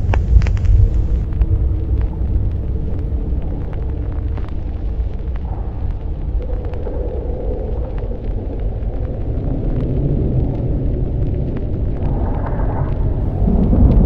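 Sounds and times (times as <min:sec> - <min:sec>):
deep storm rumble: 0:00.0 - 0:14.0
droning hum: 0:00.0 - 0:14.0
faint crackles: 0:00.0 - 0:14.0.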